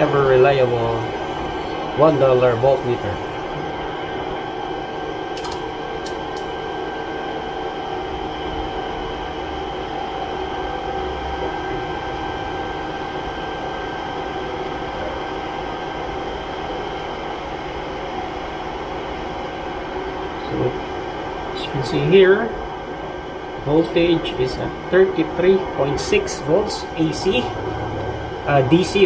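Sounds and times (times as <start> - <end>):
machine hum with whine: 0.0 - 29.0.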